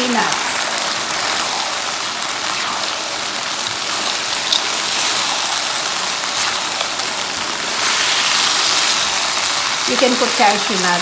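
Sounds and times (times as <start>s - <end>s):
chicken sizzling in a wok: 0.0s - 11.0s.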